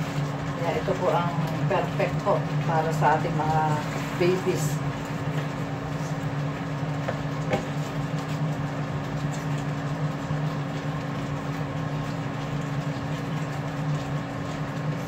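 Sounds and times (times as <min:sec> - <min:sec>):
low mechanical hum: 0:00.0 - 0:15.0
shrimp sizzling in a frying pan: 0:00.0 - 0:15.0.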